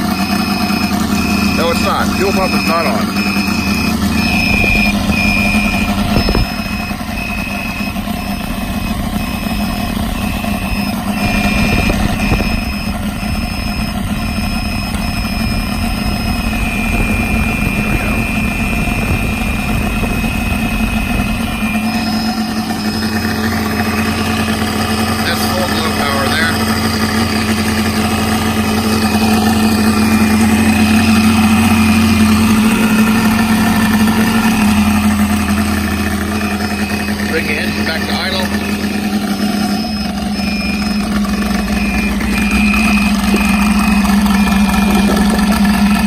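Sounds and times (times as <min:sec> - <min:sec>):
high electronic beeping: 0:00.0 - 0:46.0
model engine idling: 0:00.0 - 0:46.0.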